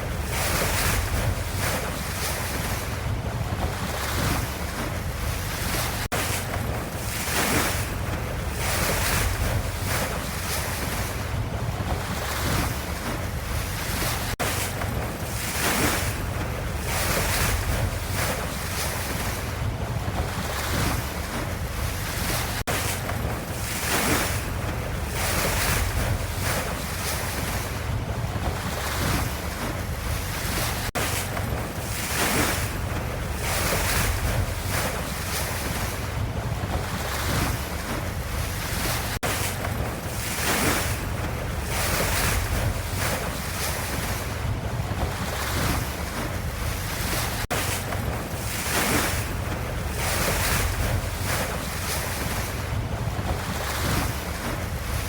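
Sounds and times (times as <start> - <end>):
ocean waves surging: 0.0 - 55.0.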